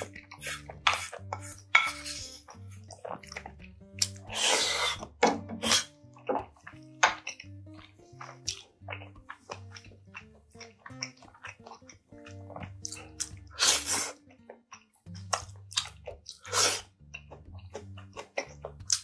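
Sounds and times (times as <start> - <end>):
slurping noodles: 0.0 - 7.6, 8.2 - 14.2, 15.2 - 17.0
soft background music: 0.0 - 19.0
wet chewing: 0.0 - 19.0.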